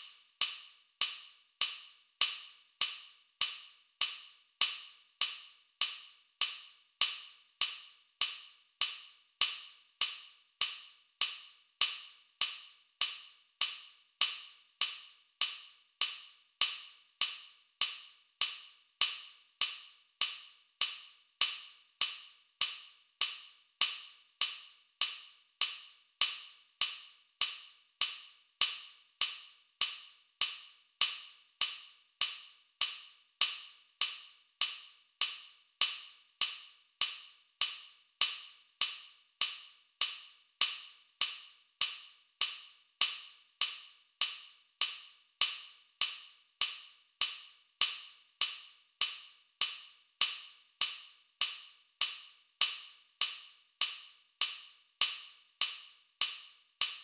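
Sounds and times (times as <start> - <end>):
metronome clicks: 0.0 - 57.0.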